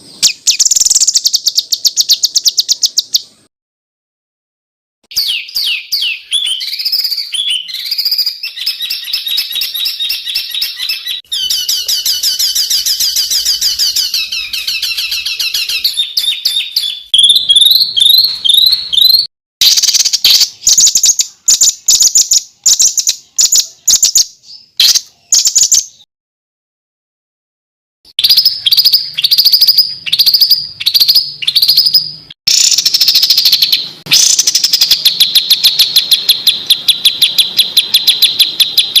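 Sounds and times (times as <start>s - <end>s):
sharp high bird calls: 0.0s - 3.5s, 5.1s - 26.1s, 28.1s - 39.0s
songbird chirps and trills: 0.0s - 3.5s, 5.1s - 26.1s, 28.1s - 39.0s.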